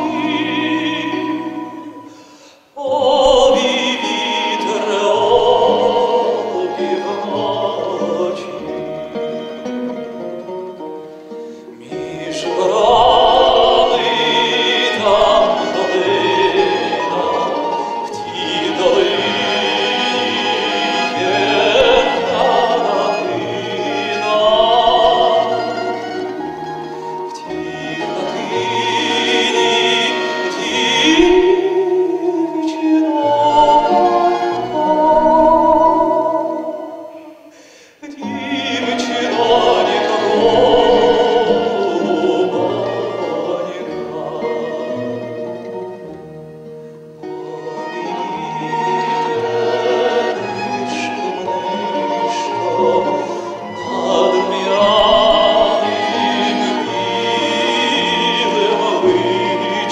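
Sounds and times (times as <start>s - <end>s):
instrumental accompaniment: 0.0s - 59.9s
man singing classical song: 0.0s - 59.9s.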